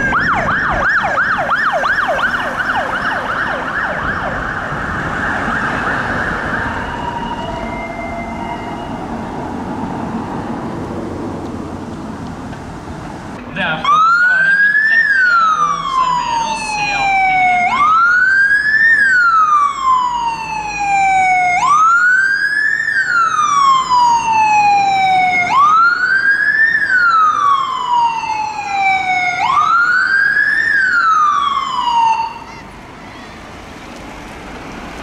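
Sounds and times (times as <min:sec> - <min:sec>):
fire engine siren wailing: 0:00.0 - 0:11.9, 0:13.7 - 0:34.8.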